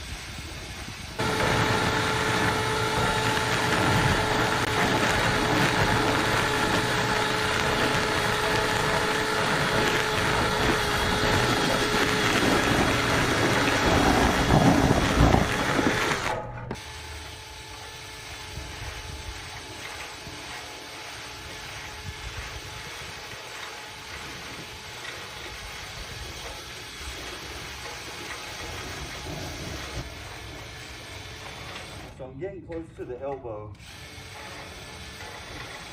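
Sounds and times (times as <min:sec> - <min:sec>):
drill spinning brush in duct: 0:00.0 - 0:32.2, 0:33.8 - 0:35.9
loud steady motor: 0:01.1 - 0:32.2, 0:33.8 - 0:35.9.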